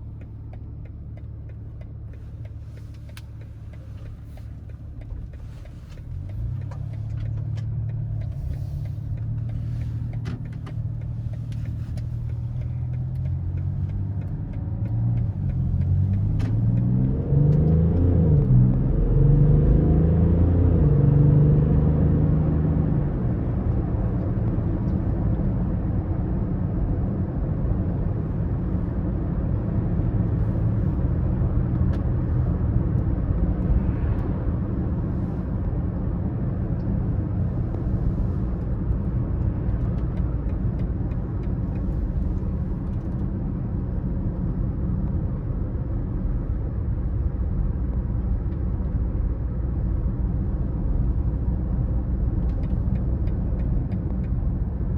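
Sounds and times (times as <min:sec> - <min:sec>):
diesel car engine driving: 0:00.0 - 0:54.9
road noise: 0:00.0 - 0:54.9.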